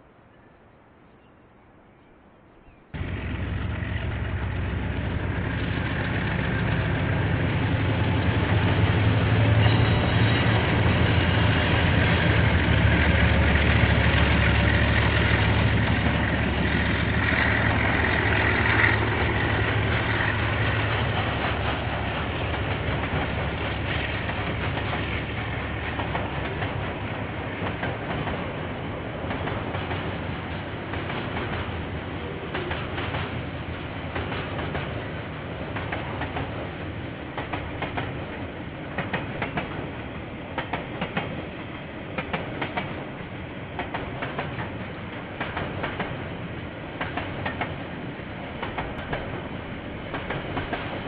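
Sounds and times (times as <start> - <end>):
diesel locomotive engine hum: 3.0 - 51.0.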